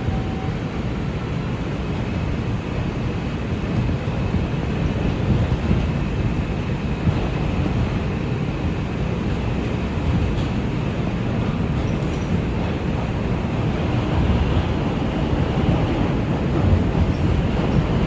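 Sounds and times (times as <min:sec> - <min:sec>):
subway train wheels rumbling: 0:00.0 - 0:18.0.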